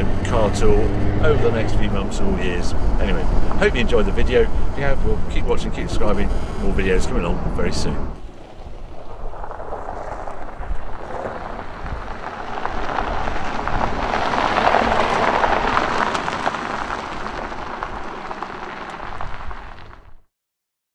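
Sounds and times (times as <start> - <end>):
low car engine rumble: 0.0 - 20.2
tyres crunching on gravel: 0.0 - 20.2.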